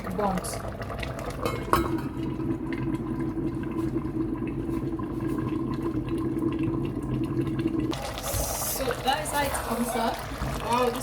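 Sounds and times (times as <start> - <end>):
covered pot boiling: 0.0 - 11.0.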